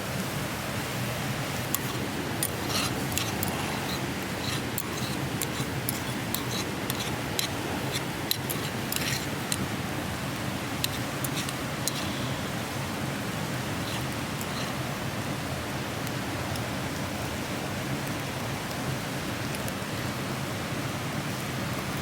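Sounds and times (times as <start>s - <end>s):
campfire crackling: 0.2s - 18.7s.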